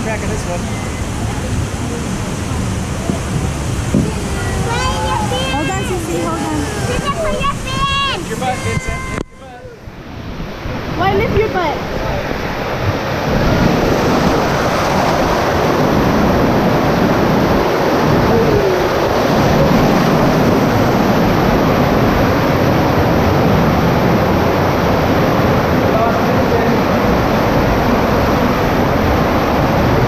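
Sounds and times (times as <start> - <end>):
rushing churning water: 0.0 - 30.0.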